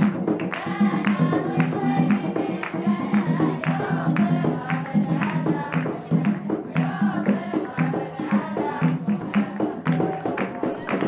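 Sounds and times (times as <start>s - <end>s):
group of voices singing: 0.0s - 11.0s
hand drums beating: 0.0s - 11.0s.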